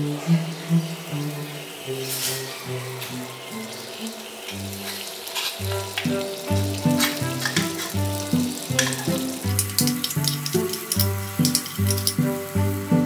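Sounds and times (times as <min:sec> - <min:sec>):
background music: 0:00.0 - 0:13.0
water sizzling on a hot pan: 0:00.7 - 0:13.0.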